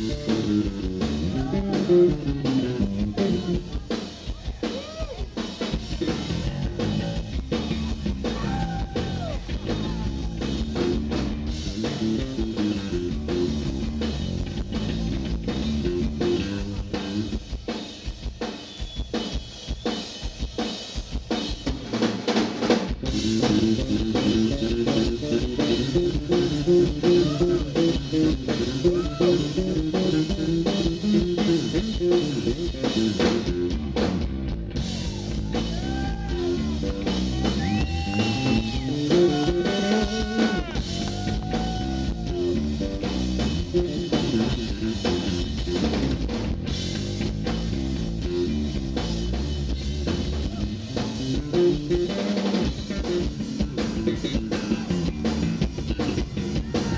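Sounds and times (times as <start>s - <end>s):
electric guitar: 0.0s - 17.7s, 21.8s - 56.9s
drum kit: 0.0s - 56.9s
hard rock band playing live: 0.0s - 56.9s.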